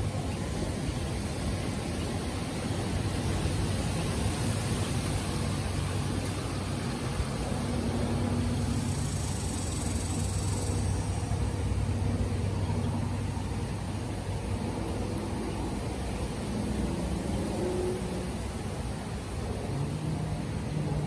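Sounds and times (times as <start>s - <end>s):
constant hiss: 0.0s - 21.0s
low mechanical hum: 0.0s - 21.0s.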